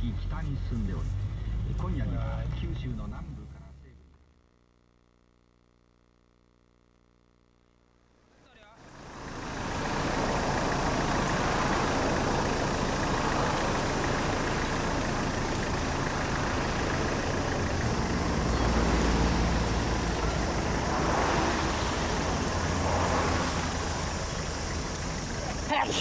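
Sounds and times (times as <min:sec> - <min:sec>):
road noise rushing: 0:00.0 - 0:03.9, 0:08.8 - 0:26.0
engine low rumble: 0:00.0 - 0:04.3, 0:08.8 - 0:26.0.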